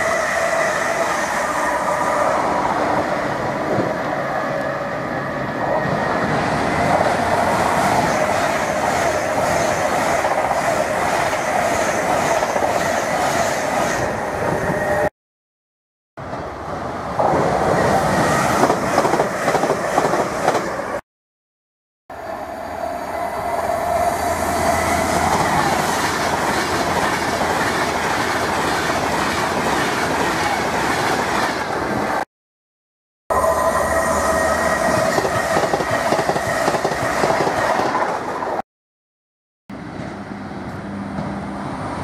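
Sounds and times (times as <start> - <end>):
electric train passing at speed: 0.0 - 15.1, 16.2 - 21.0, 22.1 - 32.2, 33.3 - 38.6, 39.7 - 42.0.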